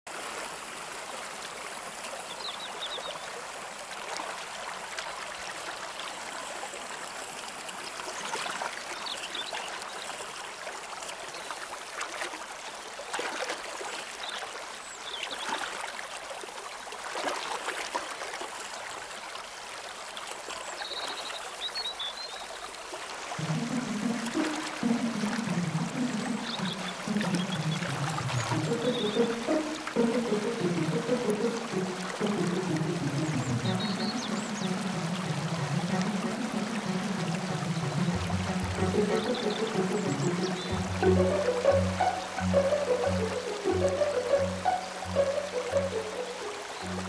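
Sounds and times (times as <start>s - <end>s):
stream babbling over stones: 0.1s - 47.0s.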